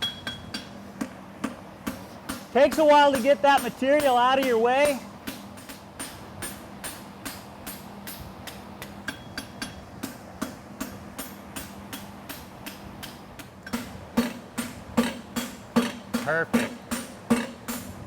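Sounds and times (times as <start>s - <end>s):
hammer striking steel on anvil: 0.0s - 18.0s
steady low hum: 0.0s - 18.0s.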